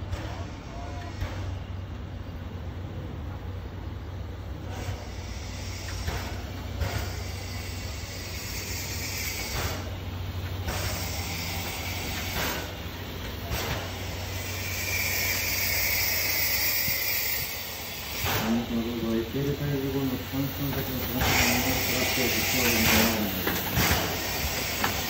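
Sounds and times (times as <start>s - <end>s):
steam locomotive hissing: 3.4s - 25.0s.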